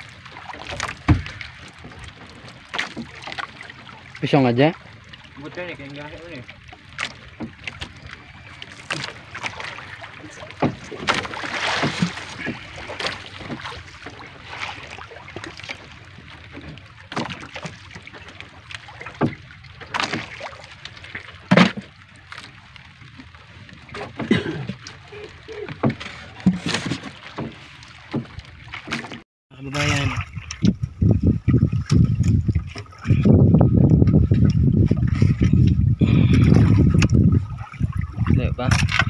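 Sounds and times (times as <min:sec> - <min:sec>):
knocks and clatter in boat: 0:00.0 - 0:39.0
water lapping against hull: 0:00.0 - 0:39.0.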